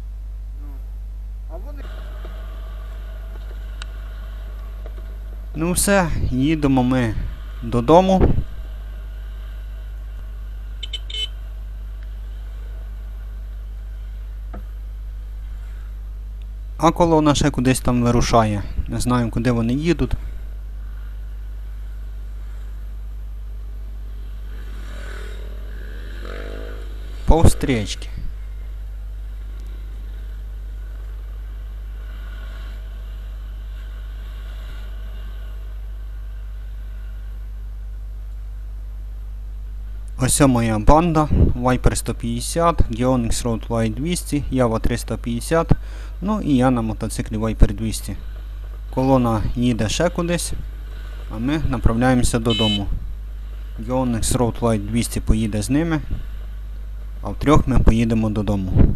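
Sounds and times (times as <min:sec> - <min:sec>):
motorcycle engine at low revs: 0:01.8 - 0:58.2.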